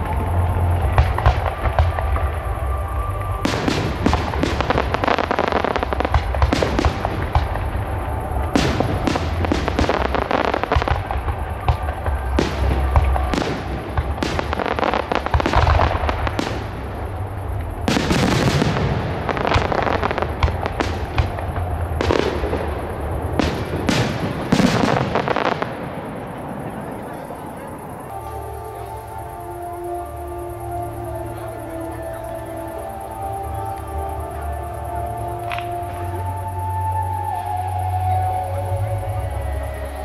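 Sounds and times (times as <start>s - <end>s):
fireworks bursting and crackling: 0.0s - 40.0s.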